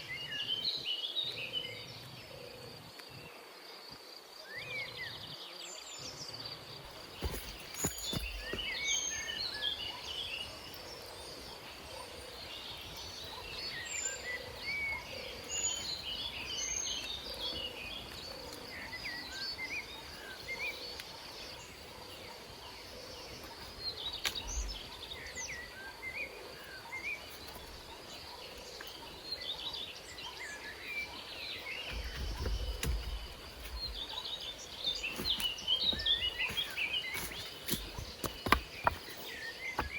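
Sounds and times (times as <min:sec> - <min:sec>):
birds chirping and calling: 0:06.9 - 0:39.9.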